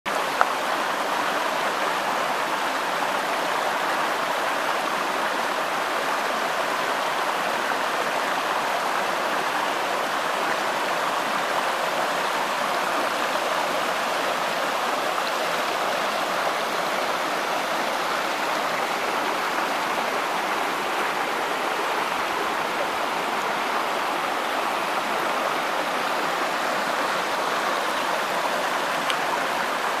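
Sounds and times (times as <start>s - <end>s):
creek rushing over boulders: 0.1s - 30.0s.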